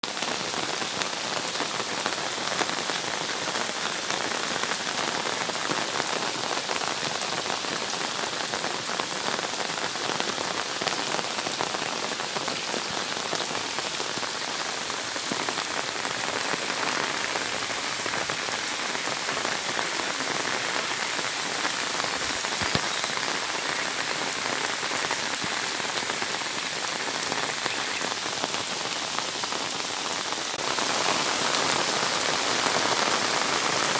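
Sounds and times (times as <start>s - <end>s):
heavy rain pattering: 0.0s - 33.9s.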